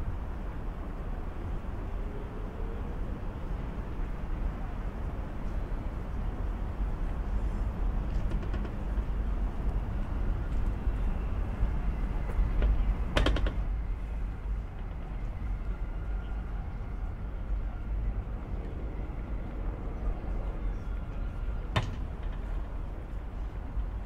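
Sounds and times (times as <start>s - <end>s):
low city rumble: 0.0s - 24.0s.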